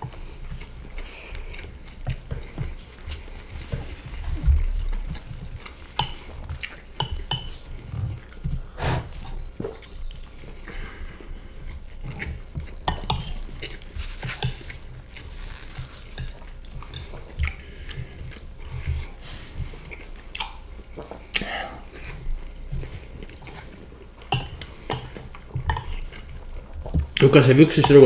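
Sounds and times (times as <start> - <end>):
close-up chewing: 0.0 - 28.0.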